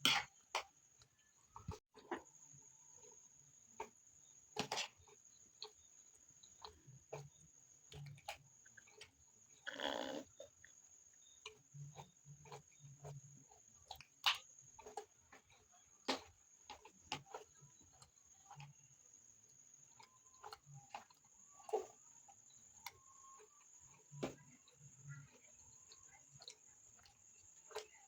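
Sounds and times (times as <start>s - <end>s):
soft chewing thumps: 0.0s - 28.0s.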